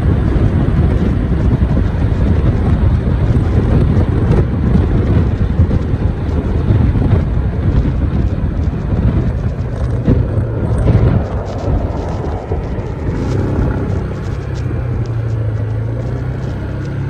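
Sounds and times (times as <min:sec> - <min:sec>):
road noise: 0:00.0 - 0:17.0
scooter engine: 0:00.0 - 0:17.0
wind buffeting microphone: 0:00.0 - 0:17.0.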